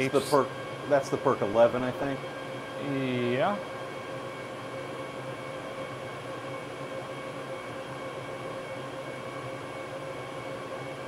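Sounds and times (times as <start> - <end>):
constant whining tones: 0.0 - 11.0
server cooling fans whirring: 0.0 - 11.0.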